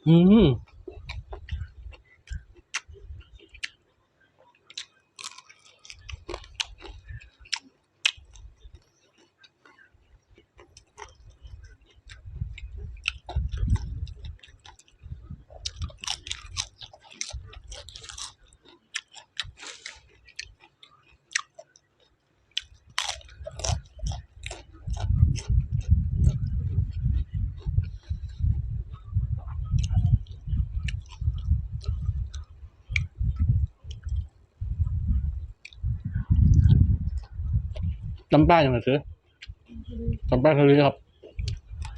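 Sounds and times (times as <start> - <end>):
chewing and crunching food: 0.1 - 41.9.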